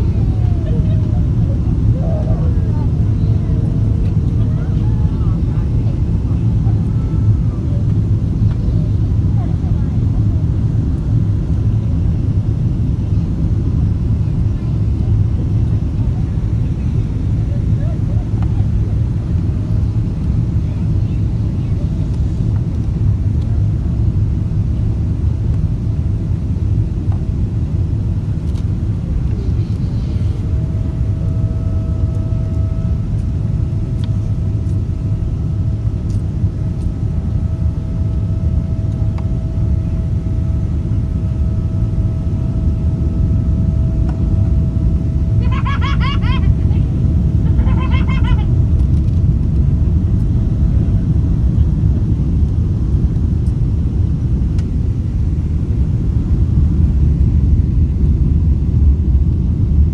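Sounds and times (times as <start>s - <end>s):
airliner cabin rumble: 0.0s - 59.9s
faint steady engine tones: 0.0s - 59.9s.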